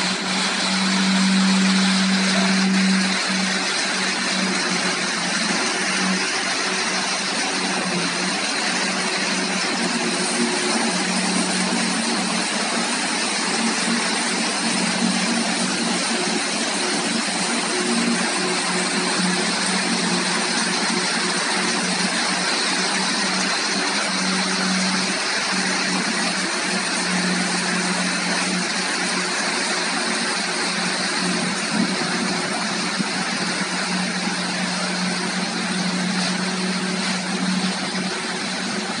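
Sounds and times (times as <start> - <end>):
churning water rushing: 0.0 - 39.0
engine hum: 0.0 - 39.0.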